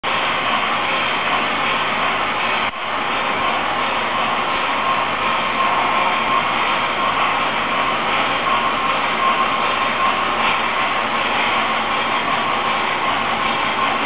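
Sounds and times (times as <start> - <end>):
faint steady whine: 0.0 - 14.0
model train wheels rolling: 0.1 - 14.0.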